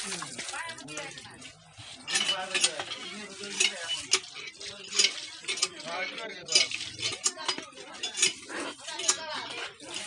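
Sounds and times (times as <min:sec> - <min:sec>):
water gushing from hand pump: 0:00.0 - 0:10.0
water splashing: 0:00.0 - 0:10.0.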